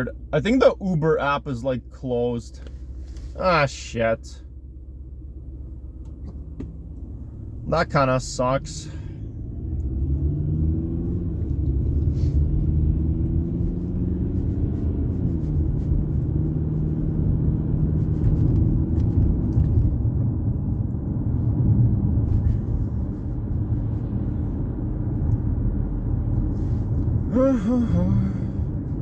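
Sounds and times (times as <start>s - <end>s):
car engine driving: 0.0s - 29.0s
road rumble: 0.0s - 29.0s.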